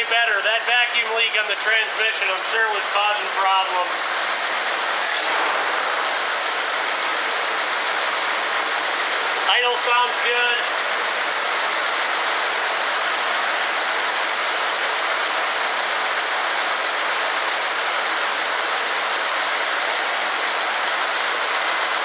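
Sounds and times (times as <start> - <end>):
car engine idling: 1.0 - 22.0.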